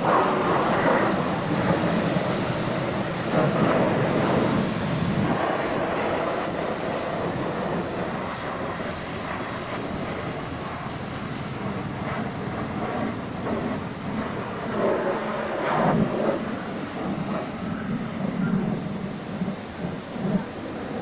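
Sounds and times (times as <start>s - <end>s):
car wash equipment rushing: 0.0s - 21.0s.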